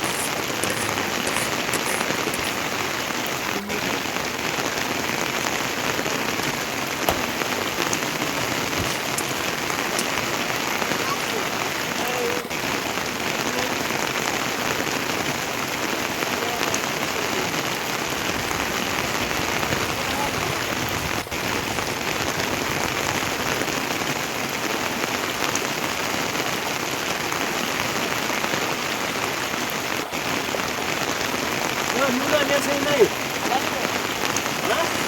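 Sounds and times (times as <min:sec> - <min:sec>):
heavy rain hissing: 0:00.0 - 0:35.0.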